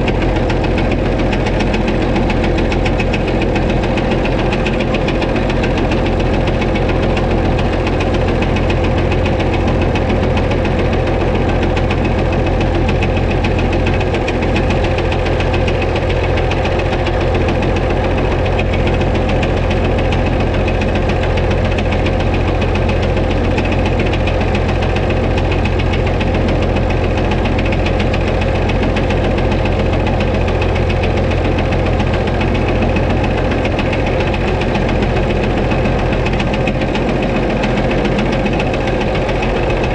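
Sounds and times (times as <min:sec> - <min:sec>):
diesel engine idling with knock: 0:00.0 - 0:39.9.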